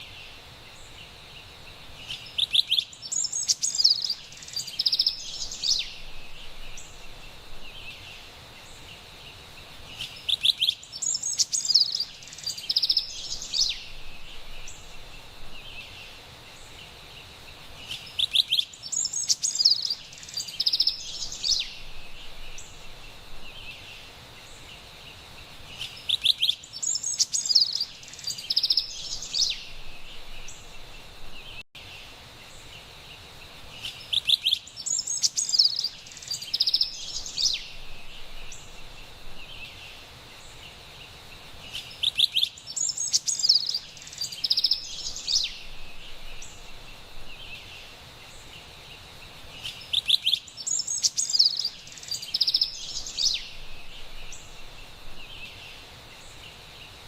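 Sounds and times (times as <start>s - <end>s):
faint forest hiss: 0.0s - 57.0s.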